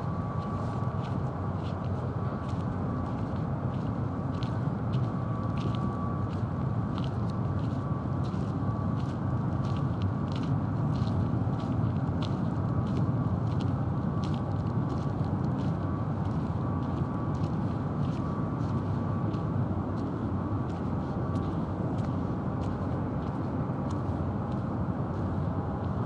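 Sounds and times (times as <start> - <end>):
faint steady whine: 0.0 - 26.0
low harbour rumble: 0.0 - 26.0.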